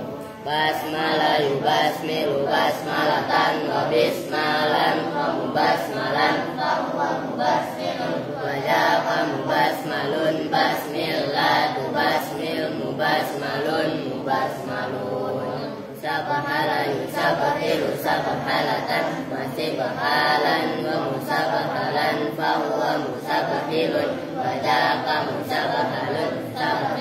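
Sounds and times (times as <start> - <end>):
boys chanting in unison: 0.0 - 27.0.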